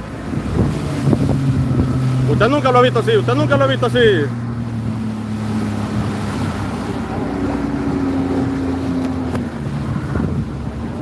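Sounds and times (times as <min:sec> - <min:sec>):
outboard motor running: 0:00.0 - 0:11.0
water rushing past hull: 0:00.0 - 0:11.0
wind buffeting microphone: 0:00.0 - 0:11.0.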